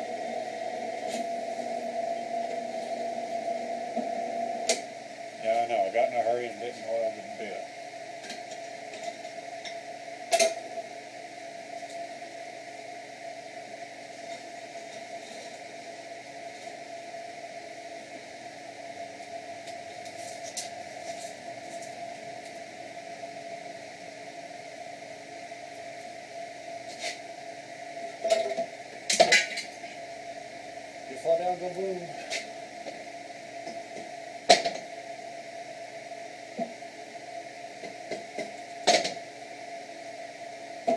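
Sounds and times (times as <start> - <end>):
drill press humming and whining: 0.0 - 40.9.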